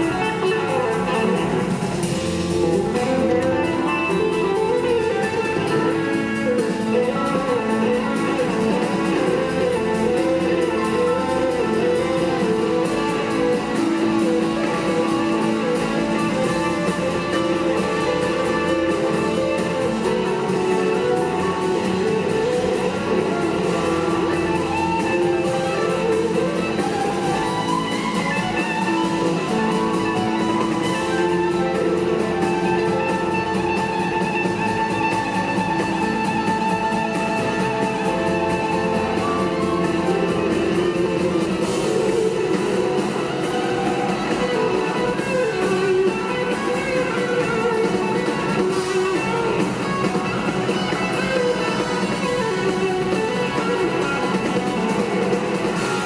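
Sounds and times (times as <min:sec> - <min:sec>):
drum kits: 0:00.0 - 0:56.0
electric guitars: 0:00.0 - 0:56.0.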